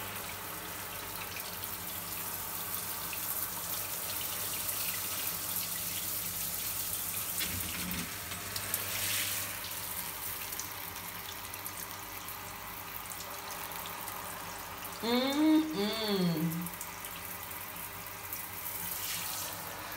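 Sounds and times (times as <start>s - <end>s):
shower spraying water: 0.0s - 19.9s.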